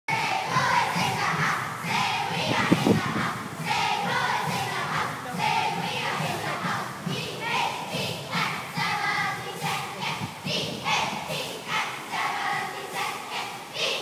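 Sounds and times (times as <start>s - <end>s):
girls chanting a cheer: 0.1s - 14.0s.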